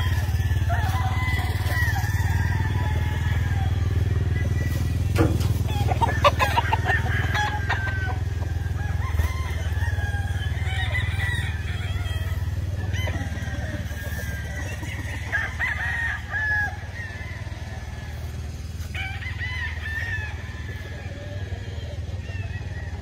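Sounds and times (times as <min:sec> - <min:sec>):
rooster clucks: 0:00.0 - 0:23.0
roosters crowing: 0:00.0 - 0:23.0.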